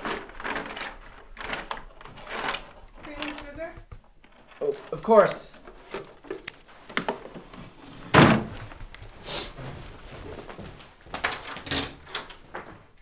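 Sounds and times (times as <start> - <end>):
rummaging knocks and clatters: 0.0 - 13.0.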